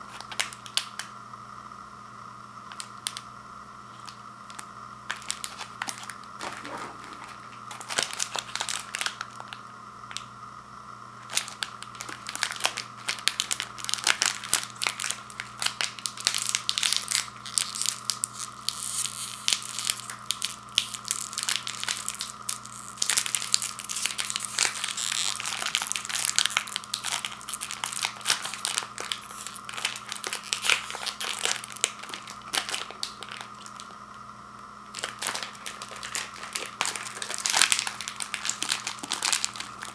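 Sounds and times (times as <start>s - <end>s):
plastic wrapper crinkling: 0.0s - 1.1s, 2.7s - 3.3s, 3.9s - 10.3s, 11.2s - 39.9s.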